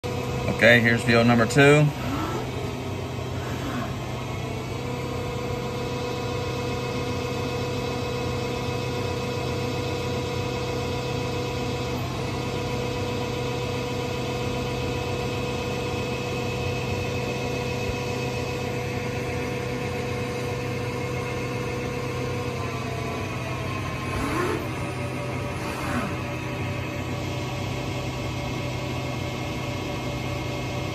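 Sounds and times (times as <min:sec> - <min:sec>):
lathe machine hum: 0:00.0 - 0:30.9
steady spindle whine: 0:00.0 - 0:30.9.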